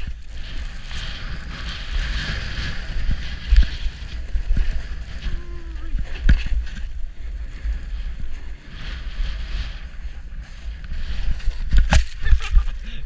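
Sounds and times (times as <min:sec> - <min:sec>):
skis sliding over snow: 0:00.0 - 0:13.0
wind buffeting microphone: 0:00.0 - 0:13.0.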